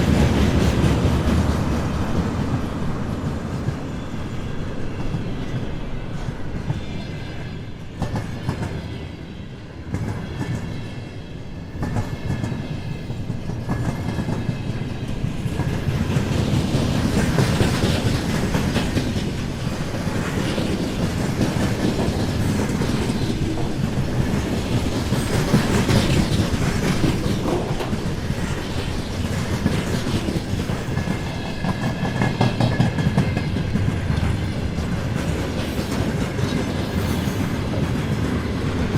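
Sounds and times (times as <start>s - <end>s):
train wheels clattering on rail joints: 0.0s - 6.8s, 11.7s - 38.9s
train rumble: 0.0s - 38.9s.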